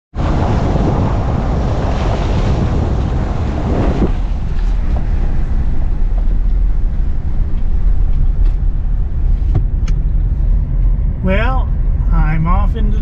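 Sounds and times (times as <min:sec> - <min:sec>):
engine and tyre rumble: 0:00.1 - 0:13.0.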